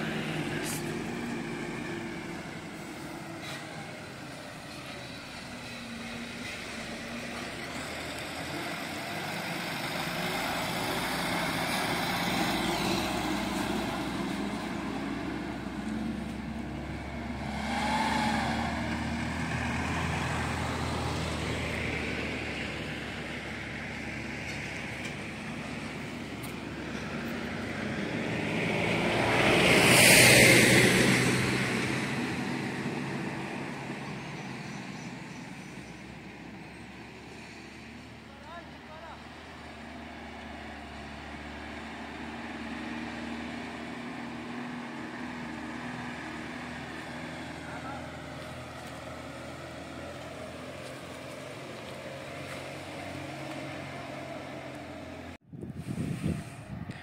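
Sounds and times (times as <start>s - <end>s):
truck engines running: 0.0s - 57.0s
vehicle rushing past: 0.0s - 57.0s.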